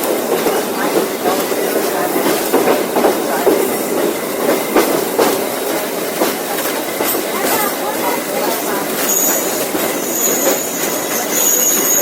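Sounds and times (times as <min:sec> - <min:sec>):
train carriages rattling rumble: 0:00.0 - 0:12.0
wheels clicking over rail joints: 0:00.0 - 0:12.0.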